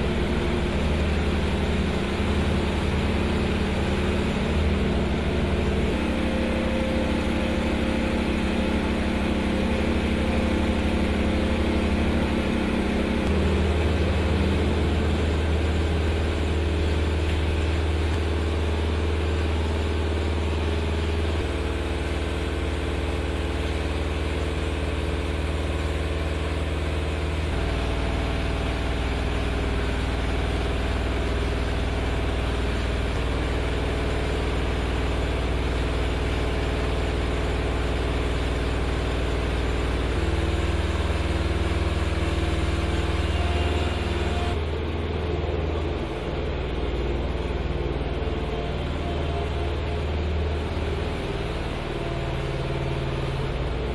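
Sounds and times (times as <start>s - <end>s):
engine idling with low hum: 0.0s - 53.9s.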